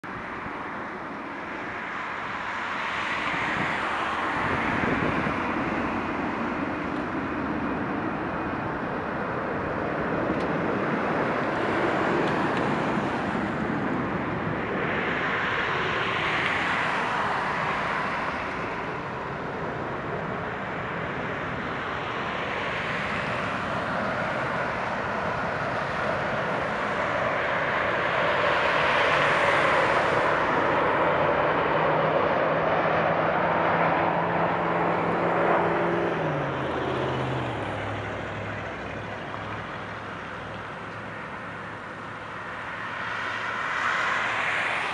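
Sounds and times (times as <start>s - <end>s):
jet engines rushing: 0.1s - 44.9s.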